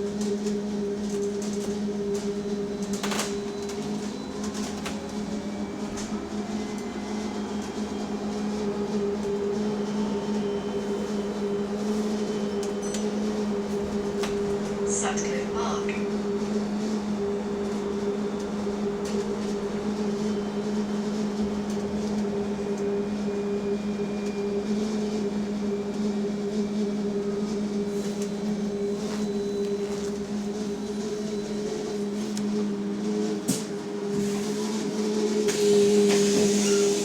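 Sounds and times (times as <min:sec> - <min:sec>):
electric bus motor hum: 0:00.0 - 0:37.0.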